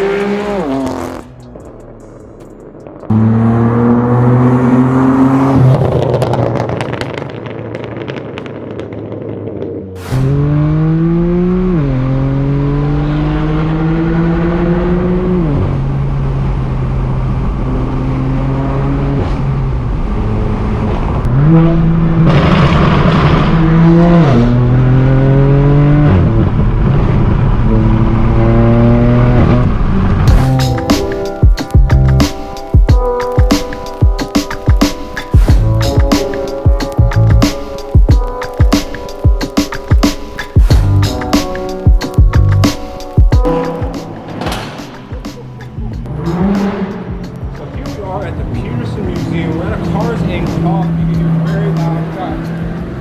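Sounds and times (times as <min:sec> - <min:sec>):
car exhaust under hard acceleration: 0:00.0 - 0:53.0.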